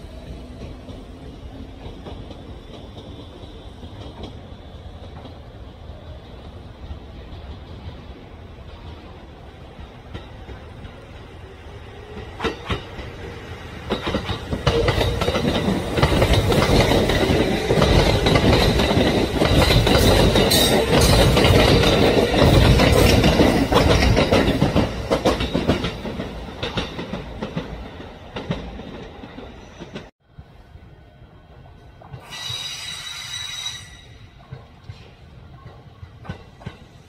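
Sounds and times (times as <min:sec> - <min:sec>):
train wheels clicking over rail joints: 0:00.0 - 0:05.6, 0:06.2 - 0:30.1, 0:32.0 - 0:37.0.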